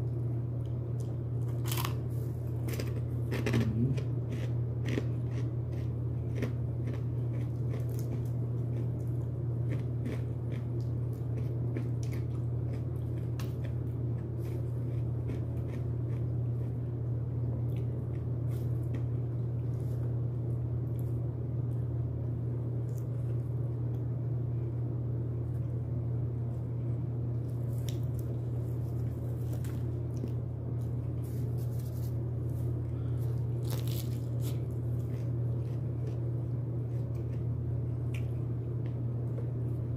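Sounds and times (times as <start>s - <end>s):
crunching bites and chewing: 0.0s - 21.9s, 22.7s - 24.1s, 27.2s - 39.9s
steady low hum: 0.0s - 39.9s.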